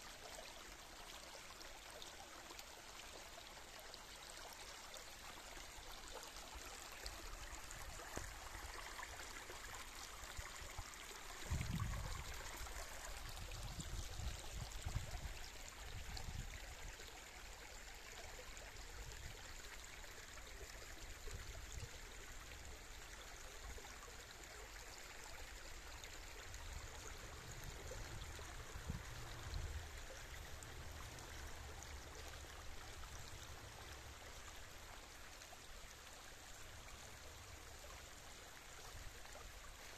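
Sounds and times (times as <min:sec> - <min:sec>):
brook trickling: 0:00.0 - 0:39.9.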